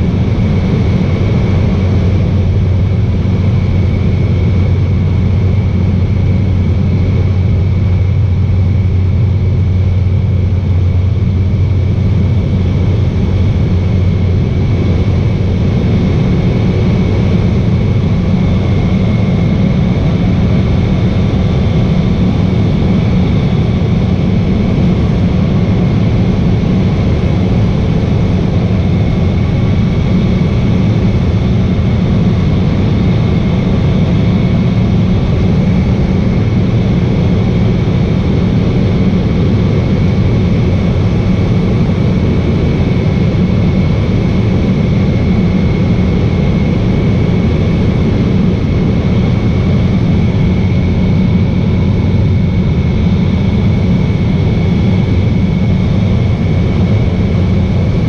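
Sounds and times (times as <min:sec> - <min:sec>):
seaplane engine and propeller drone: 0:00.0 - 0:58.0.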